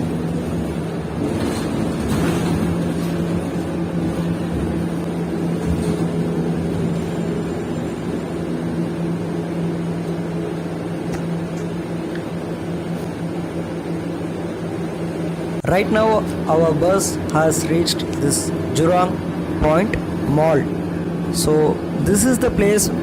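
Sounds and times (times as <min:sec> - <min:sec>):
bus engine drone: 0:00.0 - 0:23.0
road and tyre noise: 0:00.0 - 0:23.0.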